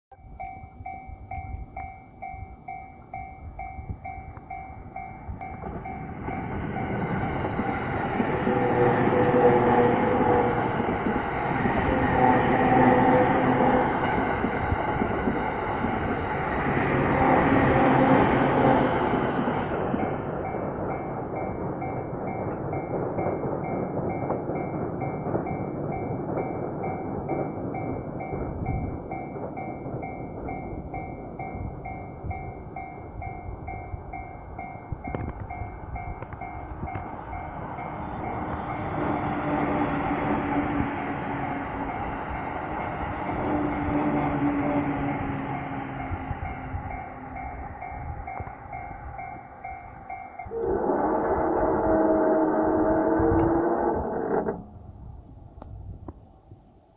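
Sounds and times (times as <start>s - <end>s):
level crossing warning bell: 0.1s - 53.6s
electric train rolling past: 0.1s - 56.4s.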